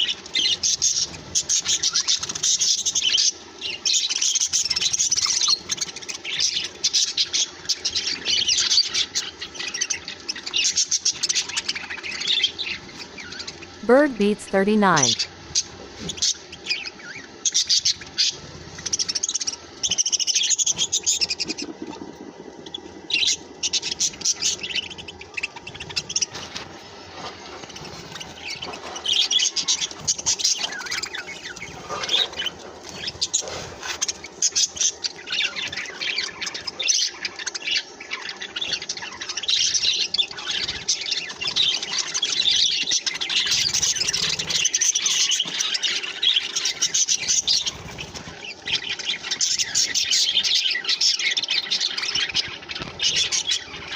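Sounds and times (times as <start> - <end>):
budgerigars chirping and chattering: 0.0 - 13.8, 15.5 - 53.9.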